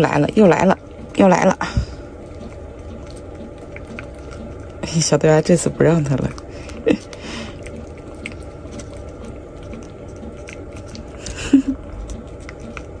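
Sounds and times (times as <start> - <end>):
cat licking: 0.2 - 13.0.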